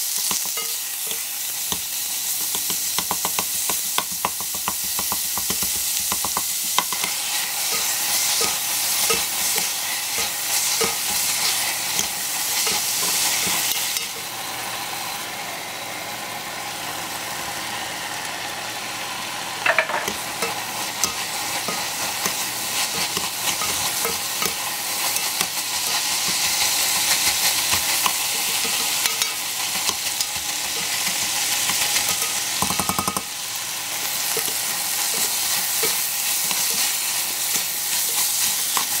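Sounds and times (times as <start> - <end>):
food sizzling in a pot: 0.0 - 39.0.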